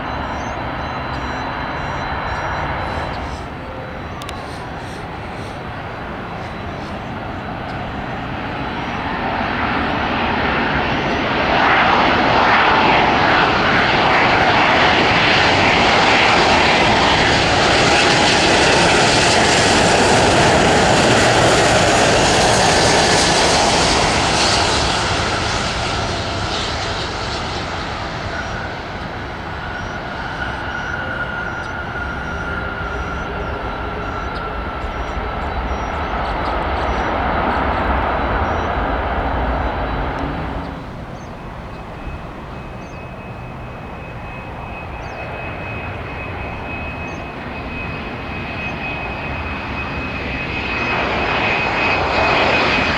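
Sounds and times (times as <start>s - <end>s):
jet engines roaring past: 0.0s - 52.9s.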